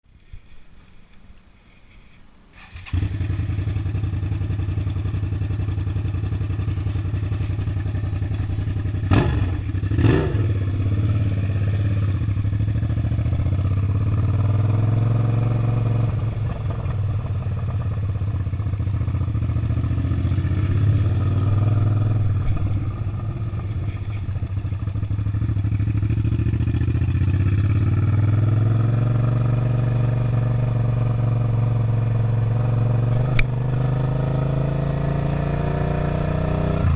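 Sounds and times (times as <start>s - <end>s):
motorcycle engine running: 2.7s - 36.9s.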